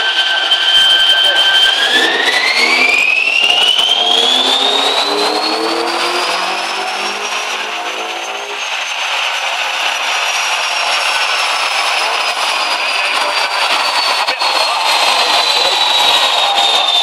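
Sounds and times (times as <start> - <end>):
car engine revving at full throttle: 0.0 - 17.0
high whine rising in pitch: 0.0 - 17.0.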